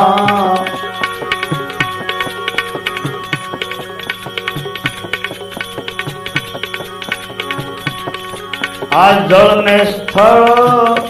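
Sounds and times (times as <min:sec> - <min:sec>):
hand drum beat: 0:00.0 - 0:11.0
held steady notes: 0:00.0 - 0:11.0
quick light ticks: 0:00.0 - 0:11.0.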